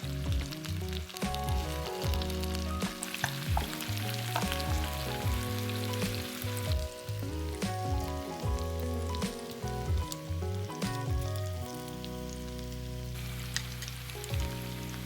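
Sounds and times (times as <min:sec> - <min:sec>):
background music with beat: 0:00.0 - 0:15.0
food sizzling in oil: 0:00.0 - 0:15.0.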